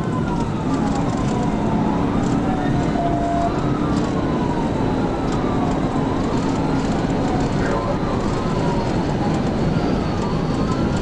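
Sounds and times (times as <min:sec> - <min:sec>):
police siren wailing: 0:00.0 - 0:11.0
road and wind roar: 0:00.0 - 0:11.0.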